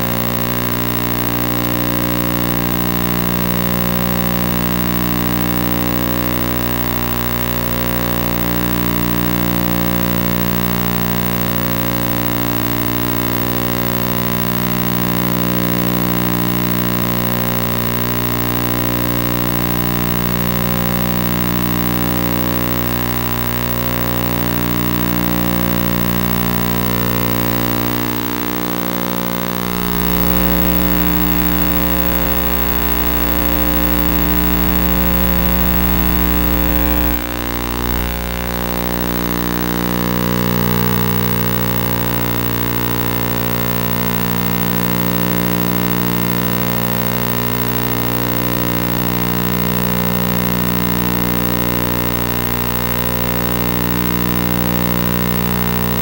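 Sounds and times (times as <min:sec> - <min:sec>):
electronic drone of held tones: 0:00.0 - 0:56.0.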